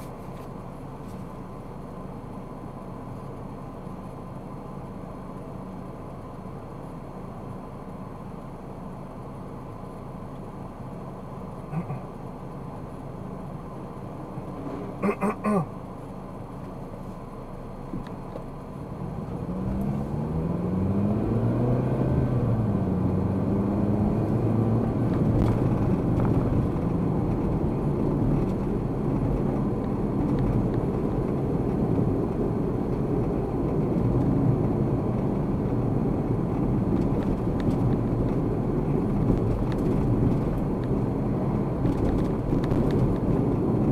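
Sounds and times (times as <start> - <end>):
car engine: 0.0 - 43.9
road noise: 0.0 - 43.9.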